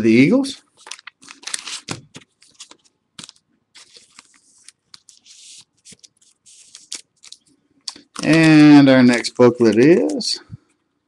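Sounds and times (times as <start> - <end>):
foil wrapper crinkling: 0.8 - 10.4.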